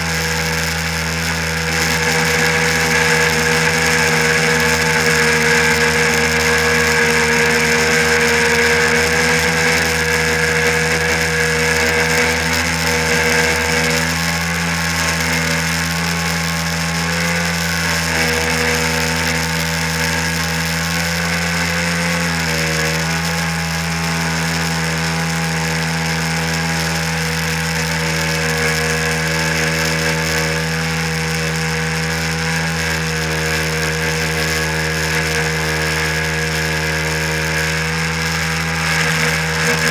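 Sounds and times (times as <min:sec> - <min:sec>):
jet wake and spray rushing: 0:00.0 - 0:39.9
watercraft engine running hard: 0:00.0 - 0:39.9.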